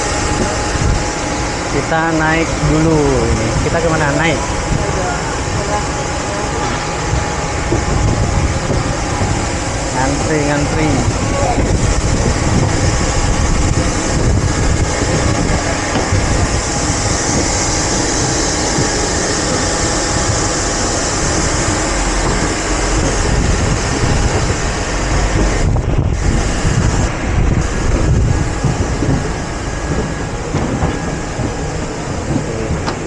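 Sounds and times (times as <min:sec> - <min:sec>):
jet aircraft roar: 0:00.0 - 0:33.0.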